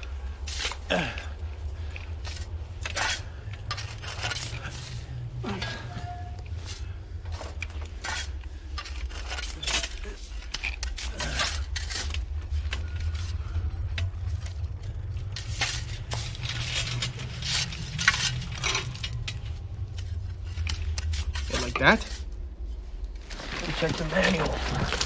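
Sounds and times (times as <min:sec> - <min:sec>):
steady low hum: 0:00.0 - 0:25.0
metallic clinks and rattles: 0:01.5 - 0:22.4, 0:23.3 - 0:25.0.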